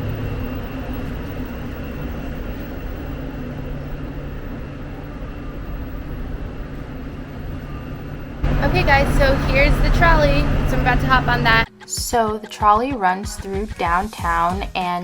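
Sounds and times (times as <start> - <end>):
vehicle running hum: 0.0 - 12.3.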